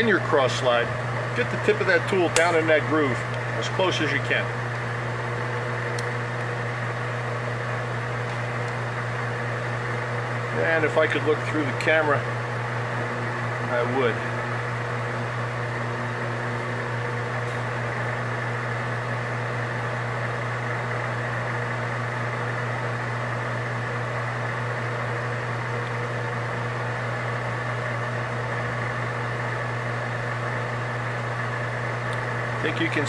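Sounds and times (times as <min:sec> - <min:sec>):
electric motor hum: 0:00.0 - 0:33.0.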